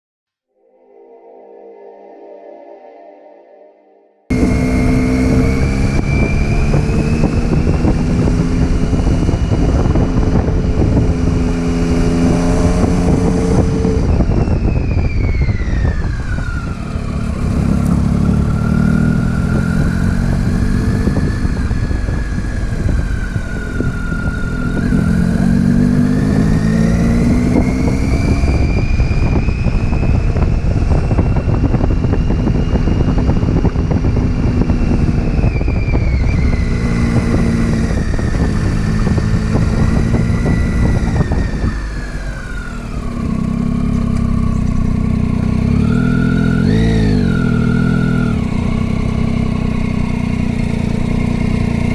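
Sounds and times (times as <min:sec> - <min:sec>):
motorcycle engine running: 0:04.3 - 0:51.9
wind and road noise: 0:04.3 - 0:51.9.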